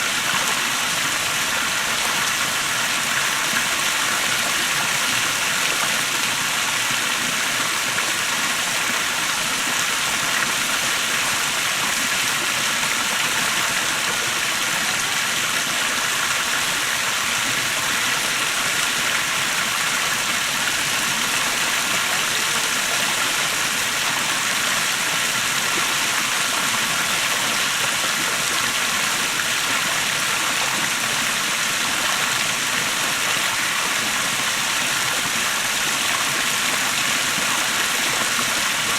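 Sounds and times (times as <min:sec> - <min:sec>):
waterfall pouring and splashing: 0:00.0 - 0:38.9.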